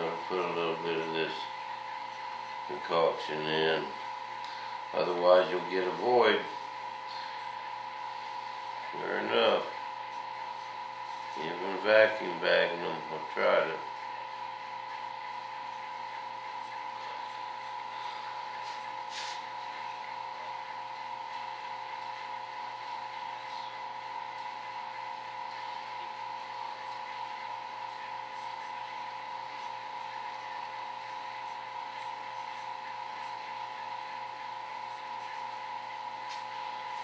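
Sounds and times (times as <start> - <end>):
high-pitched steady hum: 0.0 - 37.0.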